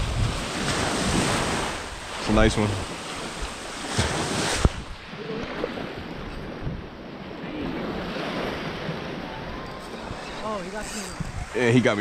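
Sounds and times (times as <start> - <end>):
wind buffeting microphone: 0.0 - 2.6, 3.2 - 12.0
waves washing on beach: 0.0 - 12.0.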